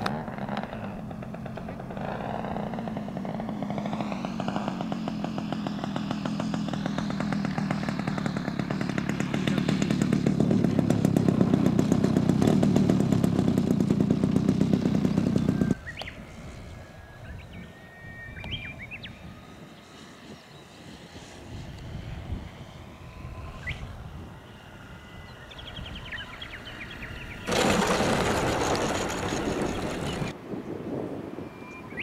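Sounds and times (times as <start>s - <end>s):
model airplane engine: 0.0s - 32.0s.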